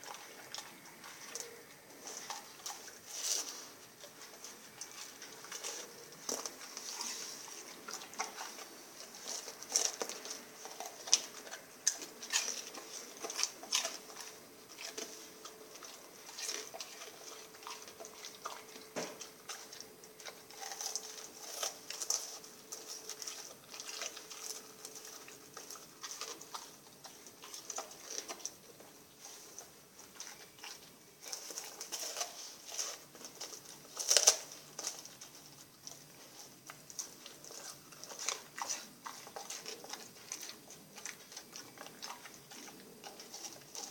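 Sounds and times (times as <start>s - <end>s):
dog chewing wetly: 0.0s - 43.9s.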